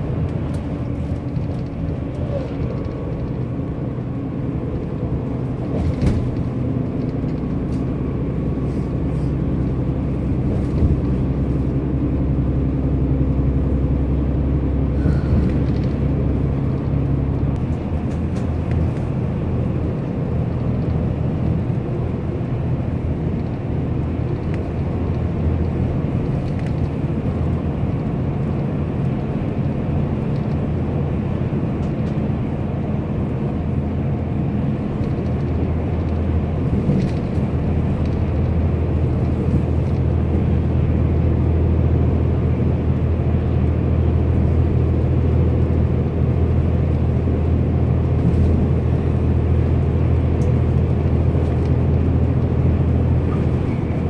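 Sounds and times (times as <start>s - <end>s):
bus engine and tyre rumble: 0.0s - 54.0s.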